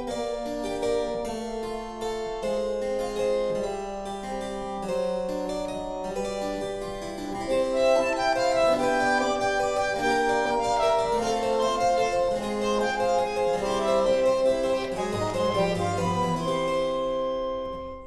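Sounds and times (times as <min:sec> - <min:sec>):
keyboard melody with bass notes: 0:00.0 - 0:18.0.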